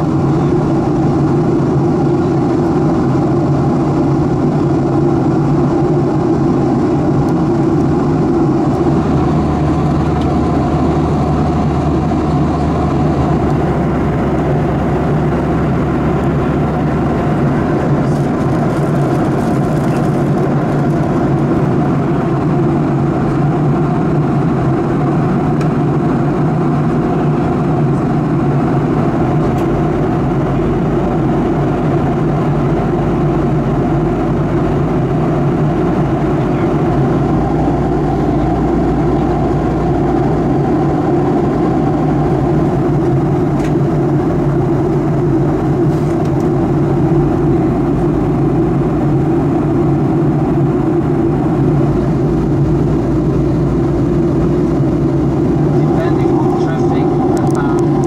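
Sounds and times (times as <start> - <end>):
airplane cabin engine drone: 0.0 - 58.0
deeper hum: 0.0 - 58.0.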